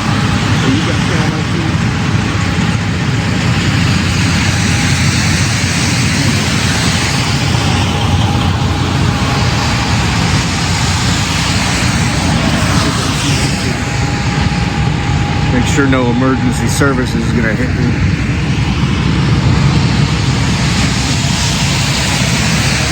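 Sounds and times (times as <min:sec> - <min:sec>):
road vehicle noise: 0:00.0 - 0:22.9.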